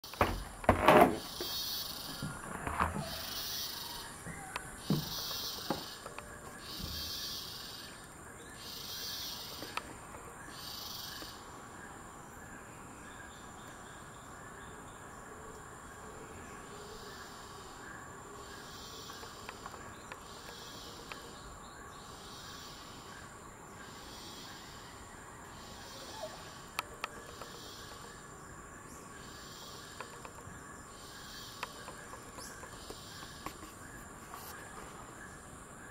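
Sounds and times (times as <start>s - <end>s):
insects buzzing pulse: 0.1s - 35.9s
high-pitched insect whine: 1.2s - 35.9s.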